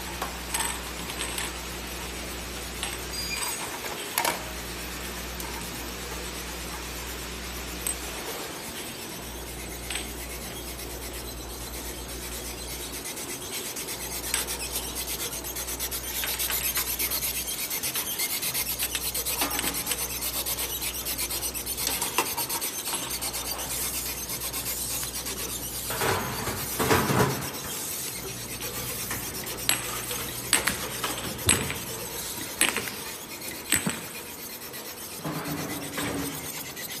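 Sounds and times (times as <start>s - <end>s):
conveyor mechanical noise: 0.0s - 37.0s
low machine hum: 4.1s - 37.0s.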